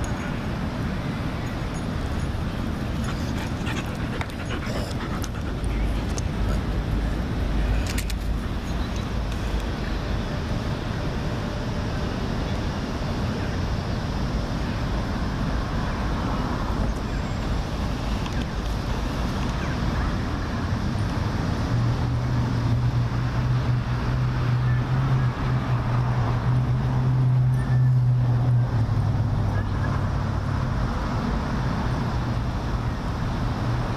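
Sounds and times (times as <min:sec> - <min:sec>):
city traffic rumble: 0:00.0 - 0:33.9.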